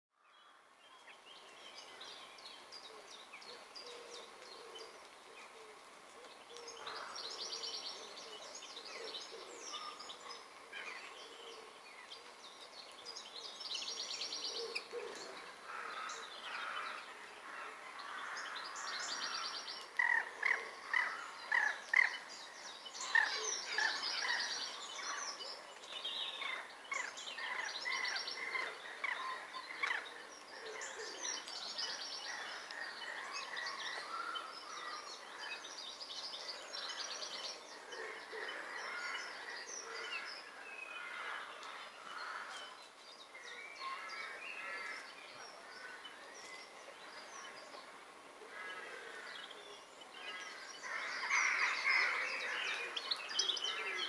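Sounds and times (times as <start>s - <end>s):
songbirds chirping and trilling: 0.2s - 54.0s.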